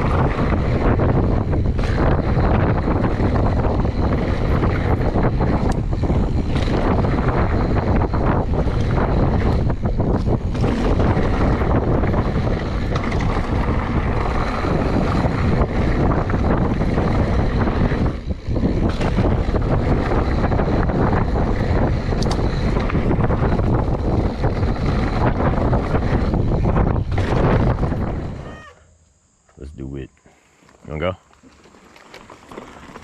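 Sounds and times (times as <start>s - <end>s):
wind buffeting microphone: 0.0s - 28.7s
tyres rumbling on dirt trail: 0.0s - 28.9s, 30.5s - 33.0s.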